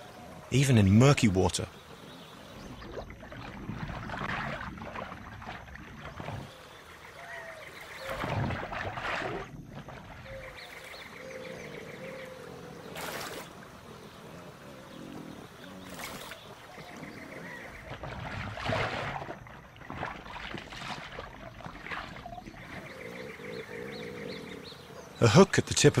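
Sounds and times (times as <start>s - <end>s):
water sloshing and splashing: 1.1s - 23.9s.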